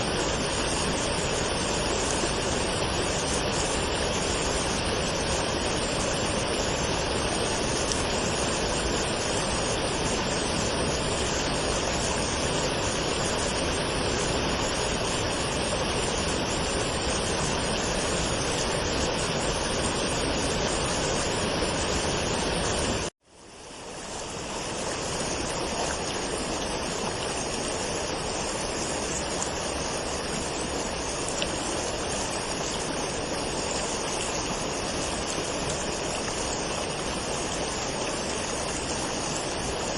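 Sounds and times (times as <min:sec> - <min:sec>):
waterfall roaring: 0:00.0 - 0:23.1, 0:23.7 - 0:39.9.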